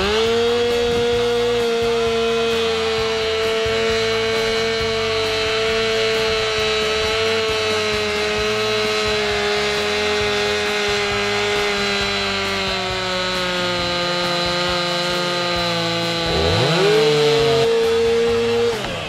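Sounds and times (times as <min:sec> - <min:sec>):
chainsaw cutting into wood: 0:00.0 - 0:19.0.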